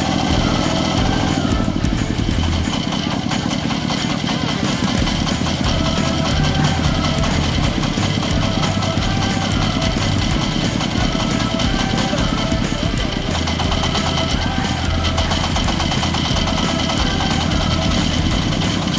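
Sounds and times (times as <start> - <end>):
background music: 0.0 - 18.9
diesel engine running: 0.0 - 18.9.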